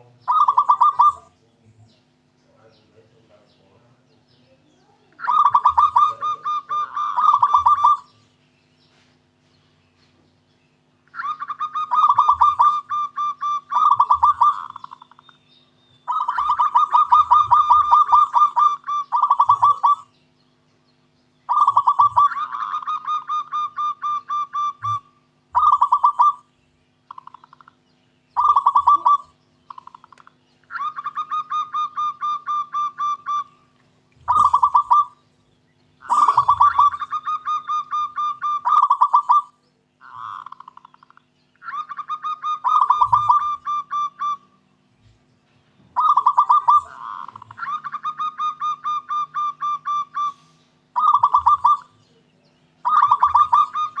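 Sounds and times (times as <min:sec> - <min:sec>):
dove cooing: 0:00.0 - 0:01.7, 0:04.5 - 0:08.3, 0:11.0 - 0:15.3, 0:16.0 - 0:20.1, 0:21.4 - 0:26.5, 0:27.1 - 0:27.8, 0:28.4 - 0:35.2, 0:36.0 - 0:45.2, 0:45.8 - 0:54.0.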